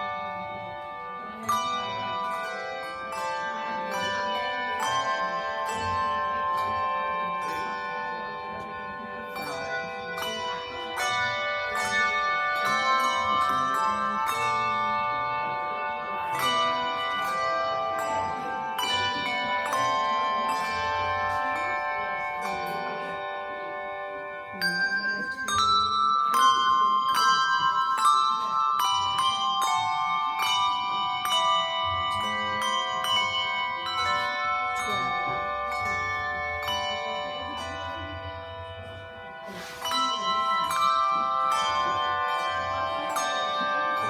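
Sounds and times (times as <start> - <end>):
handbells ringing chords: 0.0 - 44.0.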